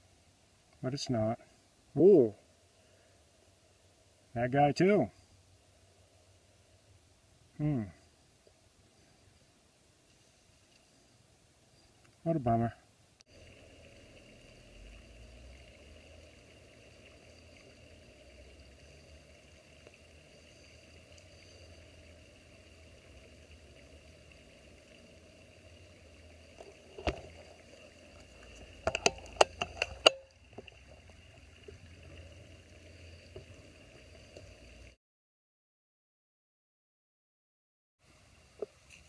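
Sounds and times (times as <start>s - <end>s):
faint background hiss: 0.0s - 35.0s, 38.0s - 39.0s.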